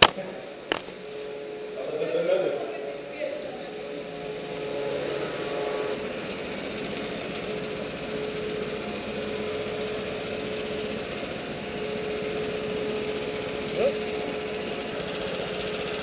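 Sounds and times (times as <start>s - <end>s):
go-kart engines buzzing: 0.0s - 16.0s.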